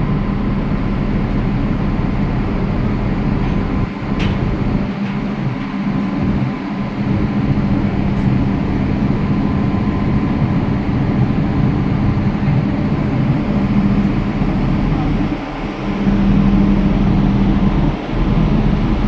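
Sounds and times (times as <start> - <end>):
engine droning steadily: 0.0 - 19.0.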